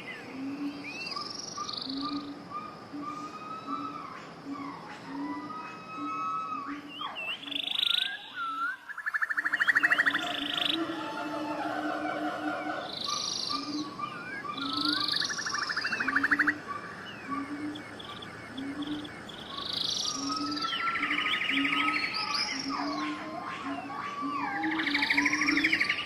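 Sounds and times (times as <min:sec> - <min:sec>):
birds singing: 0:00.0 - 0:26.0.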